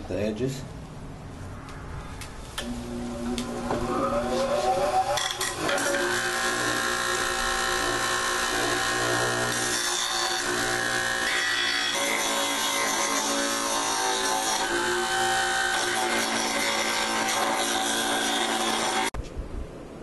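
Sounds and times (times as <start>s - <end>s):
bench grinder motor whine: 2.6s - 19.1s
wood grinding on wheel: 2.6s - 19.1s.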